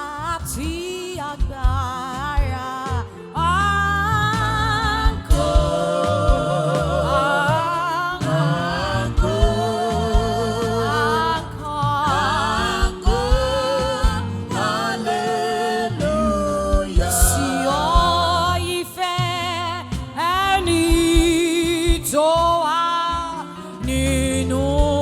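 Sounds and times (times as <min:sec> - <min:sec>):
low keyboard accompaniment: 0:00.0 - 0:25.0
person singing gospel: 0:00.0 - 0:25.0.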